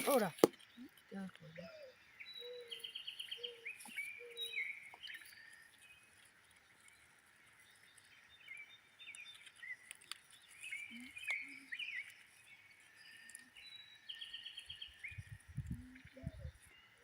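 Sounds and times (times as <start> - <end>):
birds chirping and calling: 0.0 - 17.0.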